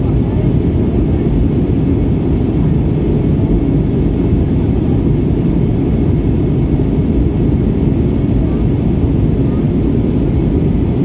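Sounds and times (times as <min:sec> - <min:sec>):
jet airliner cabin drone: 0:00.0 - 0:11.0.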